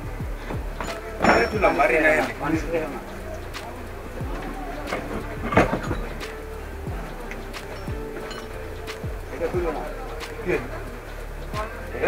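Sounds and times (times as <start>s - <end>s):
deep falling bass beat: 0.0s - 12.0s.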